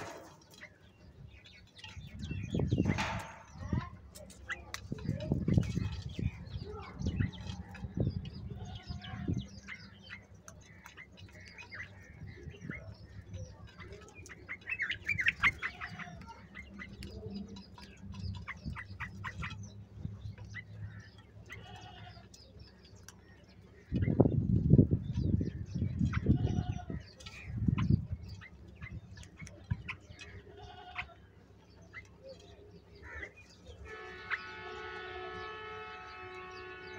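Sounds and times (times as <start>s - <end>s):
birds pecking clicks: 0.0s - 24.1s, 27.0s - 34.4s
birds chirping: 0.0s - 36.9s.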